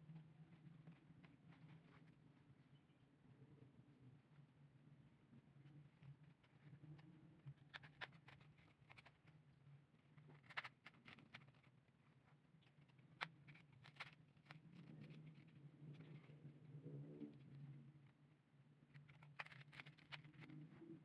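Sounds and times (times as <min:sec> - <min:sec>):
low steady hum: 0:00.0 - 0:21.0
soft clicks and paper rustles: 0:00.1 - 0:21.0.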